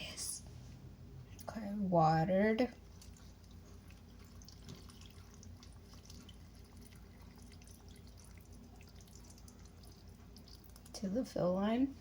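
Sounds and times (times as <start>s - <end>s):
low steady hum: 0.0s - 12.0s
water trickling and dripping: 2.2s - 12.0s.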